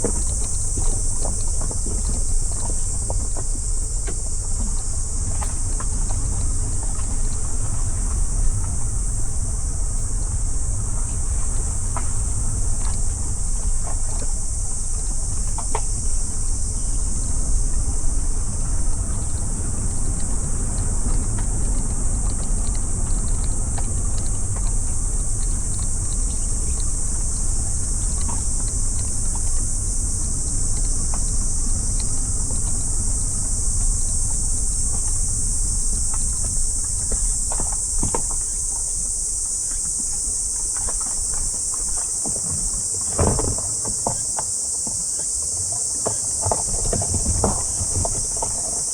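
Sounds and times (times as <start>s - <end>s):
car road and engine rumble: 0.0s - 44.2s
high-pitched insect chorus: 0.0s - 48.9s.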